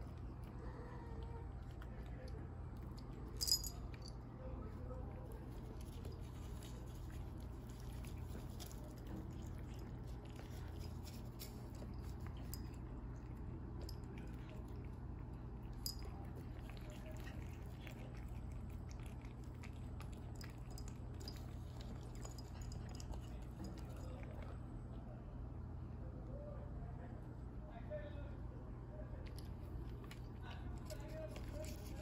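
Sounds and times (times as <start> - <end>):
cats chewing meat: 0.0 - 25.0, 29.3 - 32.0
steady low hum: 0.0 - 32.0.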